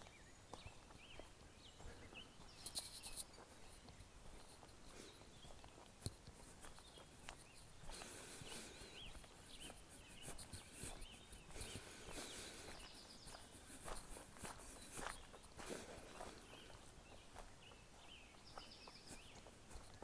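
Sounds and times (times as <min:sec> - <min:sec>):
footsteps on trail path: 0:00.0 - 0:20.0
small birds chirping: 0:00.0 - 0:20.0.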